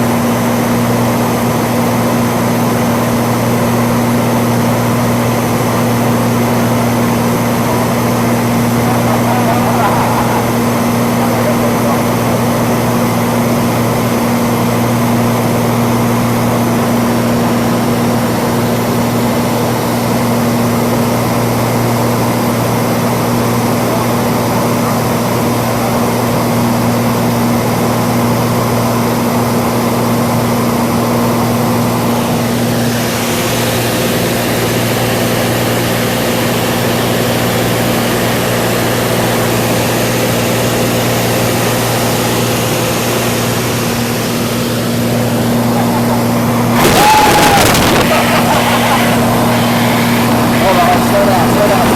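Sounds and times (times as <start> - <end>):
propeller aircraft engine droning: 0.0 - 51.9.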